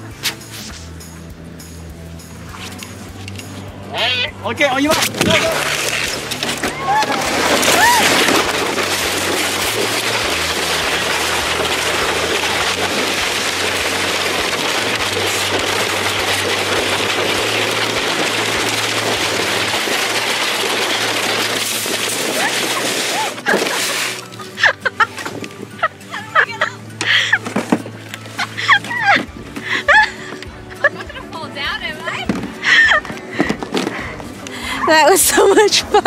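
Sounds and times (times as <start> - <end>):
sled scraping down ice chute: 4.0 - 36.0.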